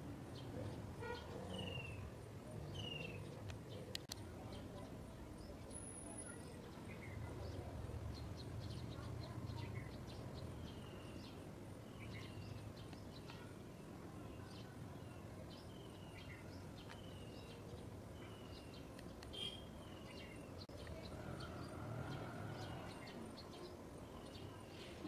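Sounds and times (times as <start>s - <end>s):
small birds chirping: 0.3s - 25.0s.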